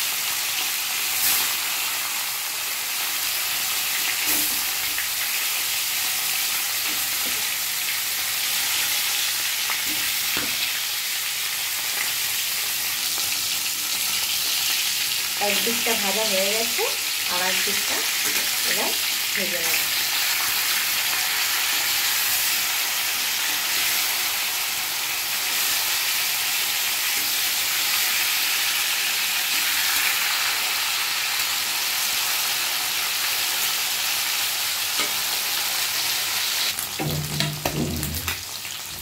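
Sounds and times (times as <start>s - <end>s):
fish sizzling in oil: 0.0s - 39.0s.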